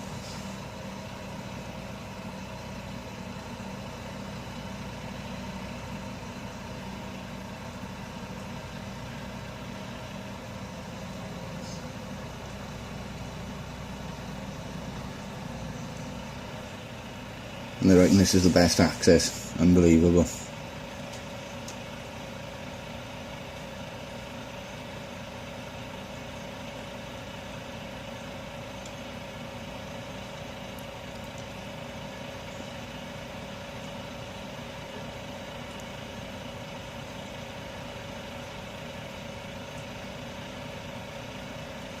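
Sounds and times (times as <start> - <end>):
constant droning hum: 0.0 - 42.0
machinery engine running: 0.0 - 42.0.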